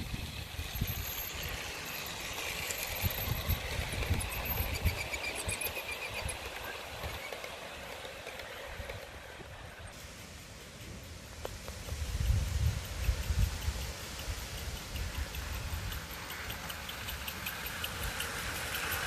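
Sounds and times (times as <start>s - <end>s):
model train rolling past: 0.0s - 19.0s.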